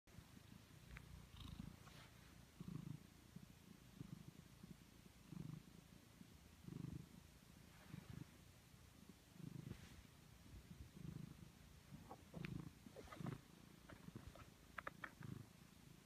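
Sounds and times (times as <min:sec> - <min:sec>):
cat purring: 0:00.1 - 0:16.0.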